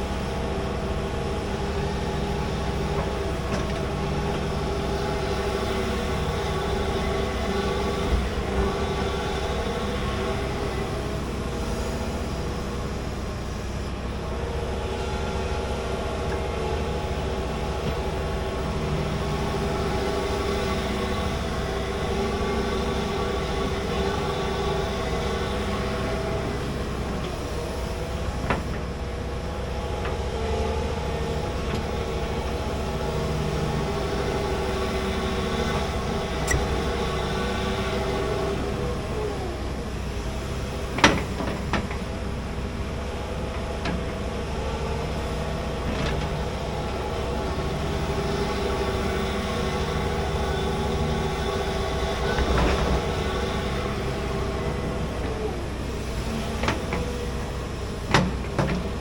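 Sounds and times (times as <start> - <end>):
excavator engine running: 0.0 - 59.0
hydraulic whine: 0.0 - 59.0.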